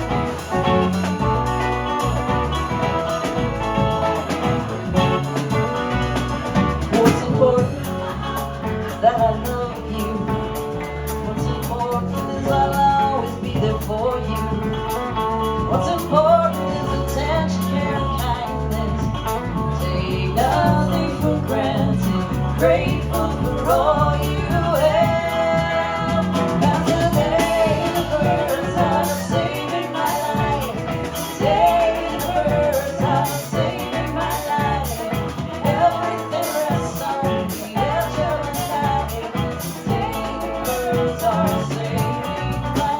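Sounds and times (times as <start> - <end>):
electric guitar: 0.0 - 42.9
live rock band playing: 0.0 - 42.9.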